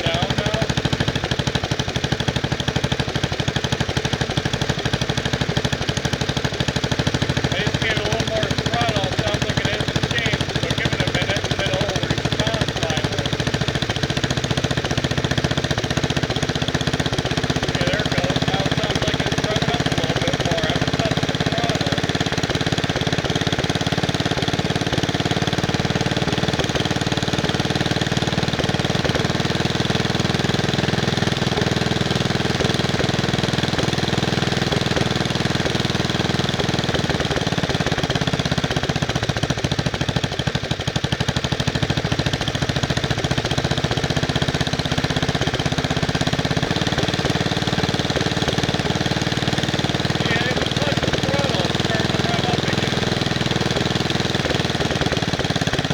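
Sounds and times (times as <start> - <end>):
single-cylinder engine running: 0.0 - 55.9.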